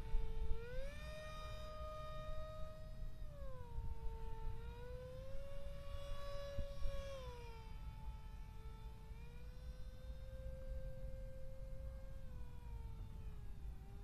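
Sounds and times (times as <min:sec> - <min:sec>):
model paramotor propeller whine: 0:00.0 - 0:14.0.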